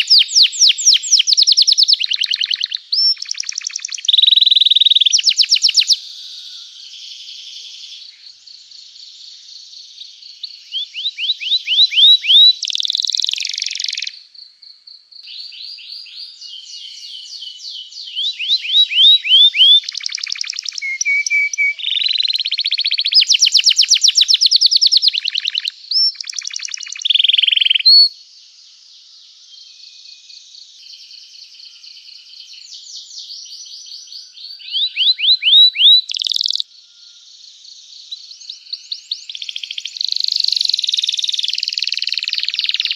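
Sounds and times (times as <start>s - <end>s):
canary singing trills: 0.0s - 14.2s, 15.2s - 28.2s, 29.6s - 42.9s.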